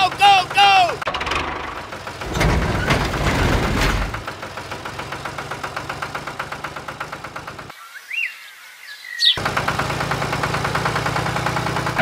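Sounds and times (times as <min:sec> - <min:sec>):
small engine idling: 0:00.0 - 0:03.2, 0:04.0 - 0:07.8, 0:09.2 - 0:12.0.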